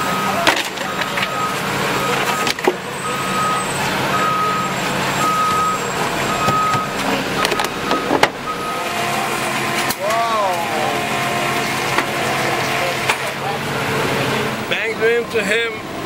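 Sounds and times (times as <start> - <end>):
truck backup alarm beeping: 0.0 - 16.0
truck engine hum: 0.0 - 16.0.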